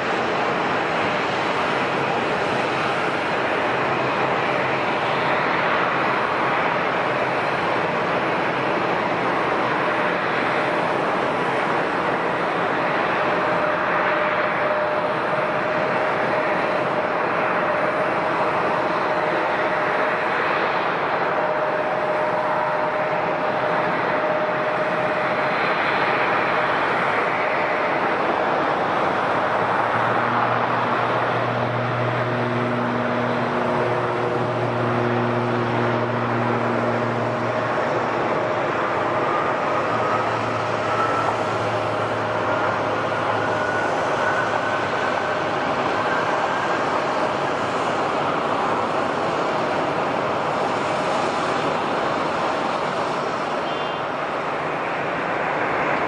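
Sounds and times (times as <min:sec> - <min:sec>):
jet engines rushing and whining: 0:00.0 - 0:56.0.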